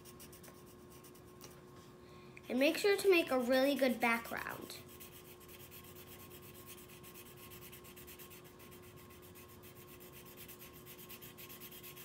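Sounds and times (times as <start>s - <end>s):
marker scratching on paper: 0.0s - 1.4s, 3.3s - 12.0s
steady low hum: 0.0s - 12.0s.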